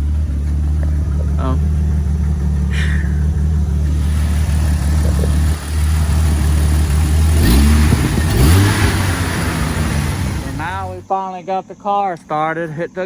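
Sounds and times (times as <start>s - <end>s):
second car engine revving: 0.0s - 11.1s
car engine idling: 0.0s - 13.0s.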